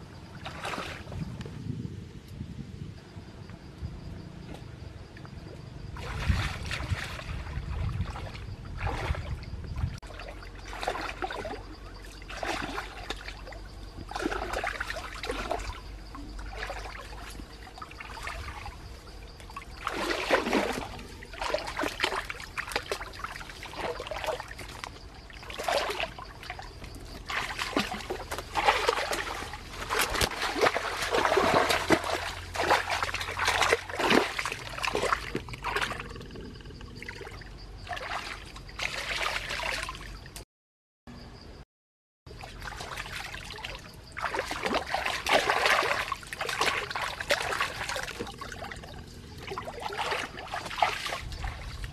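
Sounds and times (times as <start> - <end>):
water splashing and sloshing: 0.0 - 1.6, 4.4 - 40.4, 42.3 - 51.9.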